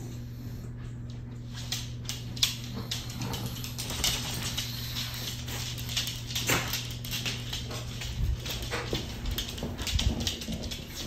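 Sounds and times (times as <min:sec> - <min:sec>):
low steady hum: 0:00.0 - 0:11.0
dog claws clicking on hardwood floor: 0:01.1 - 0:11.0.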